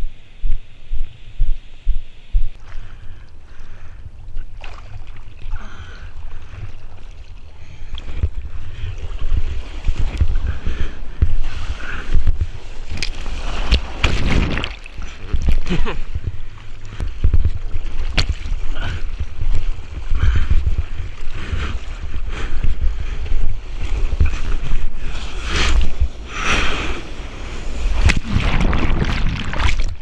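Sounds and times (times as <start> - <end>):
low rumble of water: 0.0 - 30.0
water splashing: 2.6 - 11.7, 12.7 - 26.1, 27.8 - 30.0.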